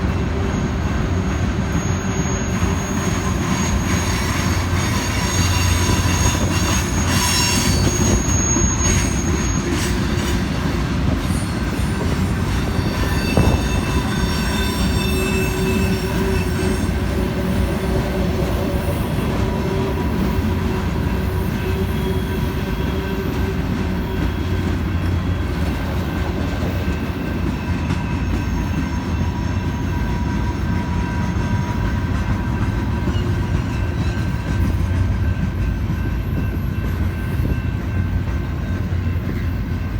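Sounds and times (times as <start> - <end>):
steel wheels squealing on rail: 0.0 - 39.9.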